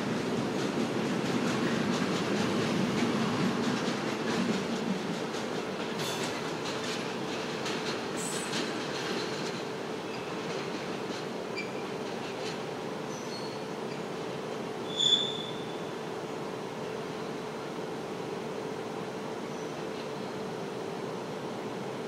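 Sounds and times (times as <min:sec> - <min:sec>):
train rolling on track: 0:00.0 - 0:22.0.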